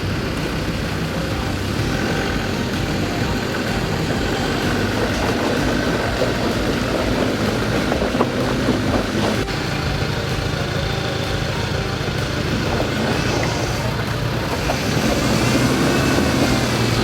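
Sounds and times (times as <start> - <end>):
engine running under load: 0.0 - 17.0
rough crackling: 0.0 - 17.0.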